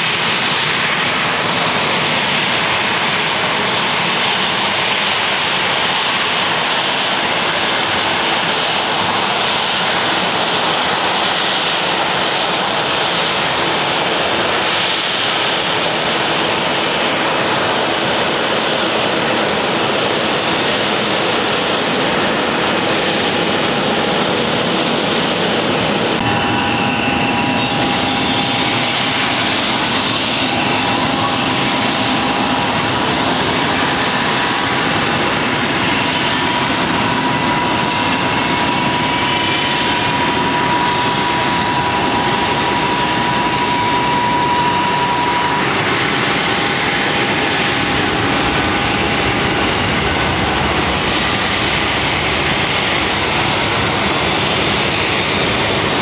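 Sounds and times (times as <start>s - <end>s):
high jet engine whine: 0.0s - 56.0s
jet engines rushing: 0.0s - 56.0s.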